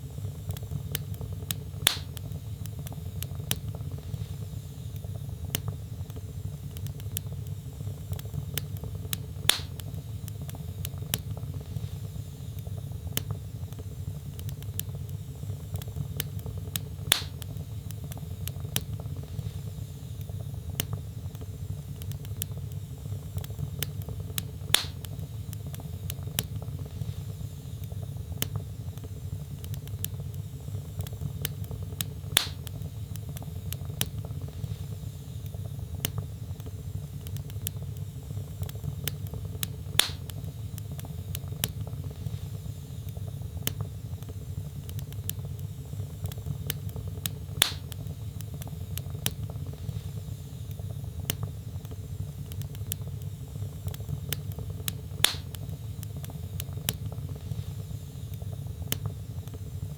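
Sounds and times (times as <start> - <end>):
burning logs popping: 0.0 - 59.9
fire crackling: 0.0 - 59.9.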